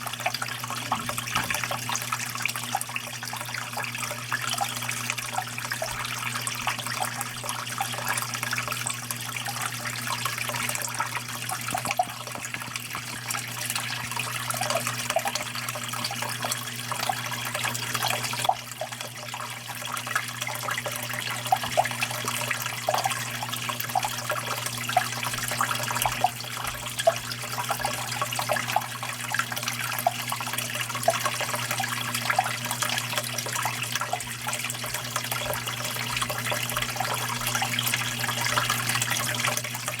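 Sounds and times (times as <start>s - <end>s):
water running and splashing: 0.0s - 40.0s
water trickling and dripping: 0.0s - 40.0s.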